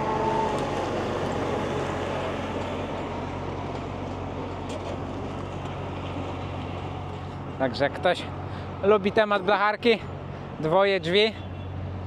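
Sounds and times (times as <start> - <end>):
heavy diesel engine droning: 0.0 - 10.5.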